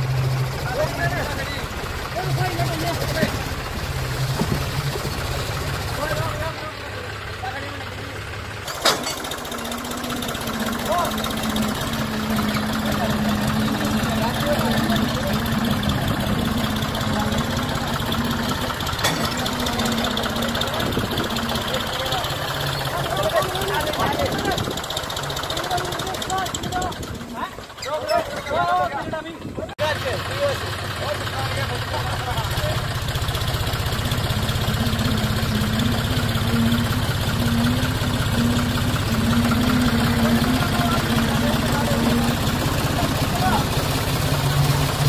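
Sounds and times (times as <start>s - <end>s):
tractor diesel engines running: 0.0s - 45.0s.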